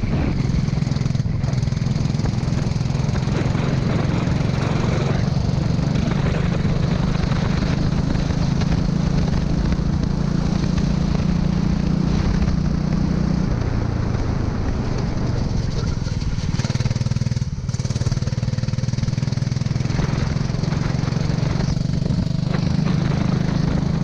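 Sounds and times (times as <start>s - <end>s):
go-kart engine running: 0.0s - 24.0s.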